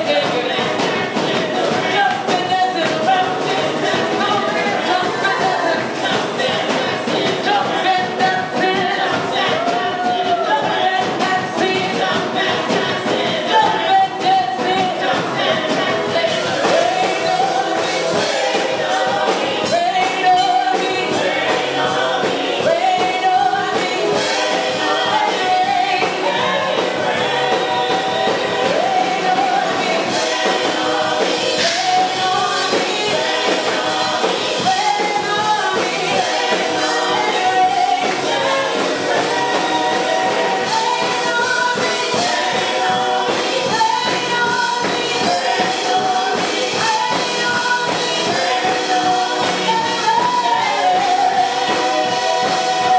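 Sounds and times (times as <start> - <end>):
instrumental accompaniment: 0.0 - 52.9
voices singing gospel song: 0.0 - 52.9.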